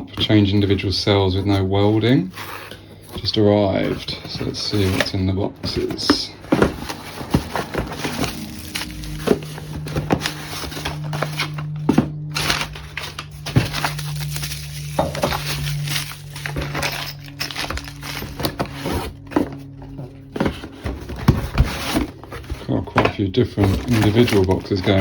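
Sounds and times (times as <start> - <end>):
steady low hum: 0.0 - 25.0
cardboard packaging crinkling: 1.5 - 25.0.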